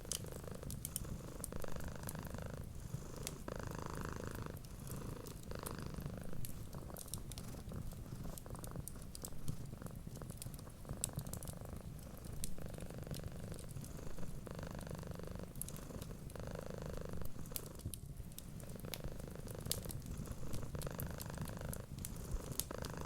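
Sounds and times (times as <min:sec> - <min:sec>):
cat purring: 0:00.0 - 0:23.0
wood fire crackling: 0:04.2 - 0:23.0.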